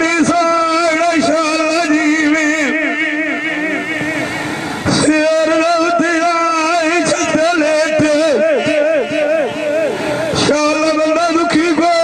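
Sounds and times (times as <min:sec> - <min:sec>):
man singing with vibrato: 0:00.0 - 0:12.0.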